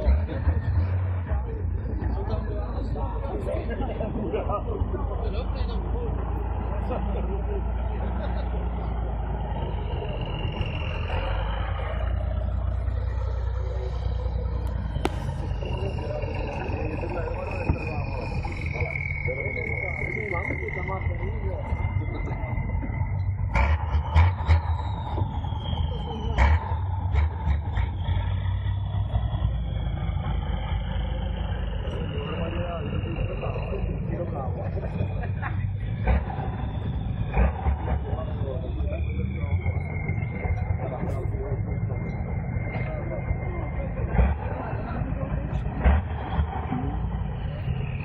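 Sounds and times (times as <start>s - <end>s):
truck engine rumbling: 0.0s - 48.0s.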